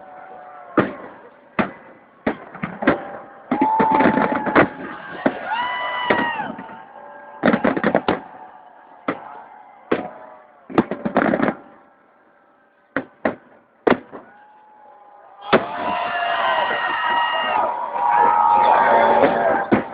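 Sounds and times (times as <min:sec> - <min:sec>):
crowd cheering: 0:00.0 - 0:19.9
fireworks bangs and crackles: 0:00.7 - 0:11.8, 0:12.9 - 0:14.4, 0:15.5 - 0:19.9.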